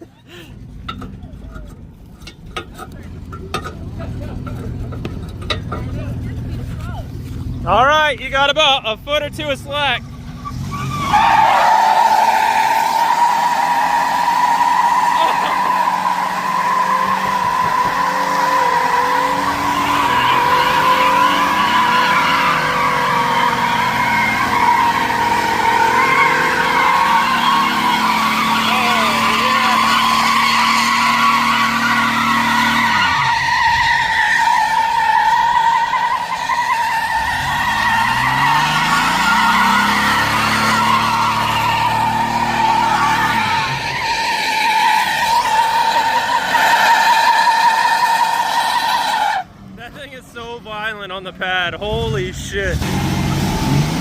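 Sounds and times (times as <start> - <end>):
tires squealing on pavement: 0.0 - 51.0, 51.9 - 54.0
truck engines revving: 0.0 - 54.0.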